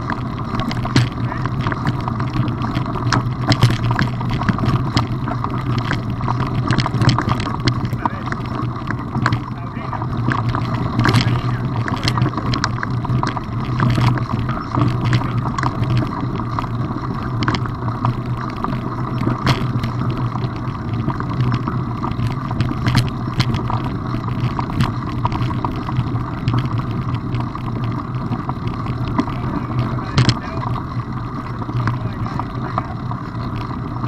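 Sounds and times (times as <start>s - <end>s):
stones clicking and rattling: 0.0s - 34.0s
wheels rolling over gravel: 0.0s - 34.0s.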